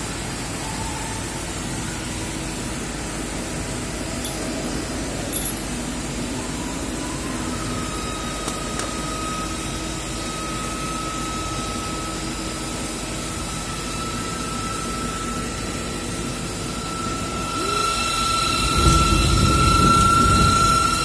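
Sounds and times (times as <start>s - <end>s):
thin high whine: 0.0s - 21.0s
lathe machine hum: 1.5s - 21.0s.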